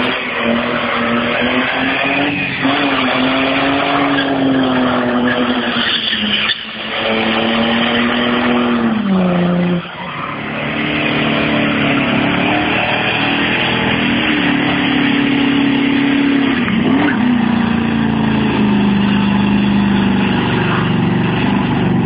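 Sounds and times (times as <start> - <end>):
tyres screeching: 0.0 - 21.2
car engine at high revs: 0.0 - 22.0.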